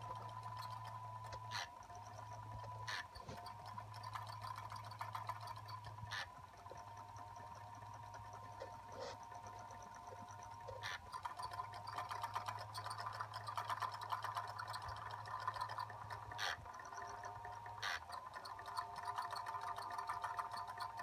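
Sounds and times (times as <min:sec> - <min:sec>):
clockwork bird chirping clatter: 0:00.0 - 0:21.0
sharp mechanism clicks: 0:00.0 - 0:21.0
thin steady tone: 0:00.0 - 0:21.0.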